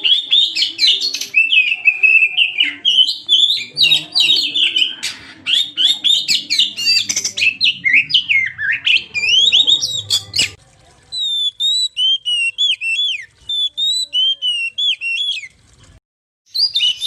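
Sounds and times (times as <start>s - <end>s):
bird song whistles and chattering: 0.0s - 10.6s, 11.2s - 15.5s, 16.5s - 17.0s
repeated whistled bird notes: 0.0s - 10.6s, 11.2s - 15.5s, 16.5s - 17.0s.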